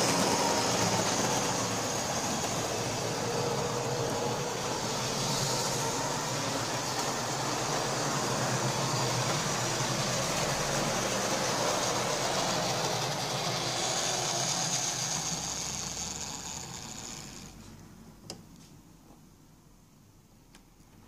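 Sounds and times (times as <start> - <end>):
model train motor whirring: 0.0 - 17.8
wheels rumbling on track: 0.0 - 17.8.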